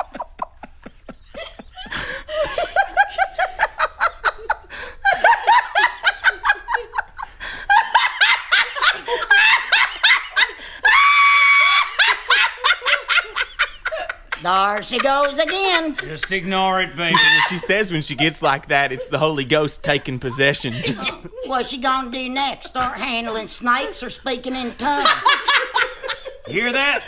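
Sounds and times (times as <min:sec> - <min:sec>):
woman laughing: 0:00.0 - 0:27.0.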